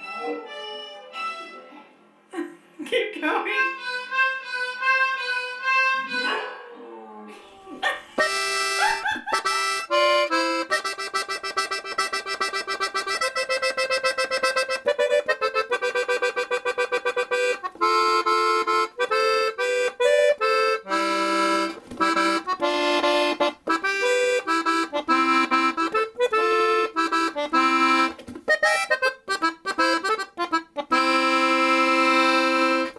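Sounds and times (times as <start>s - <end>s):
lively accordion tune: 0.0s - 1.7s, 3.4s - 6.2s, 8.2s - 32.9s.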